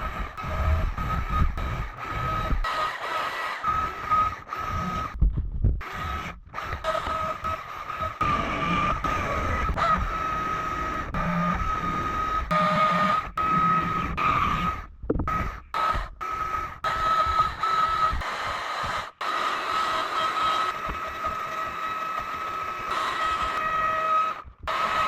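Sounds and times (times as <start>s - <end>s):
chainsaw carving wood: 0.0s - 5.2s, 5.8s - 25.0s.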